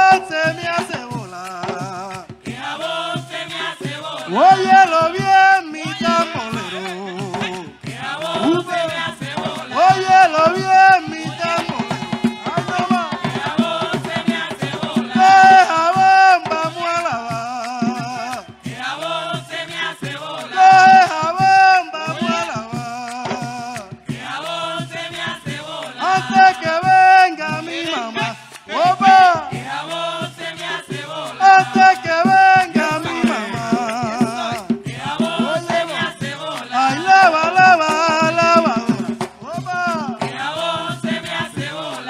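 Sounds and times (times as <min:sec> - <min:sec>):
hand drums and percussion: 0:00.0 - 0:42.0
voices singing a repeated phrase: 0:00.0 - 0:42.0.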